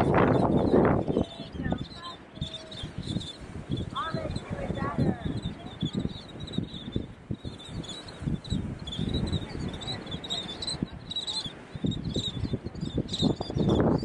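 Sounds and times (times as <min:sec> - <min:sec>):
shorebirds chirping: 0:00.0 - 0:14.0
wind buffeting microphone: 0:00.0 - 0:14.0.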